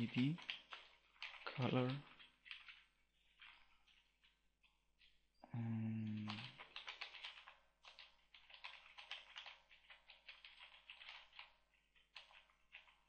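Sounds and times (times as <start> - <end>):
typing on computer keyboard: 0.0 - 5.1, 6.0 - 13.0.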